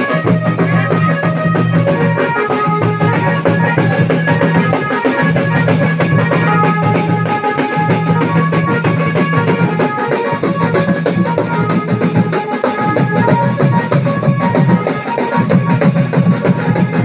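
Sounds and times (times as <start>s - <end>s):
fast steady drumming: 0.0s - 17.0s.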